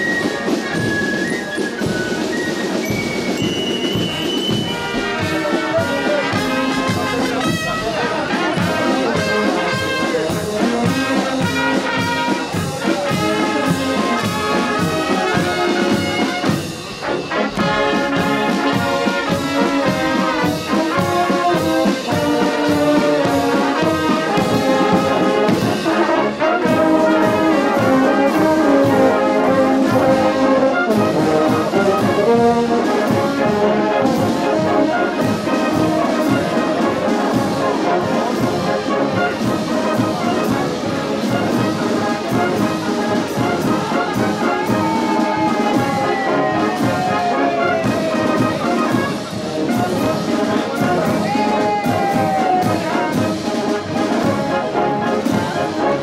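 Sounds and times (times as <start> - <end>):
marching brass band: 0.0 - 56.0
steady drum beat: 0.0 - 56.0.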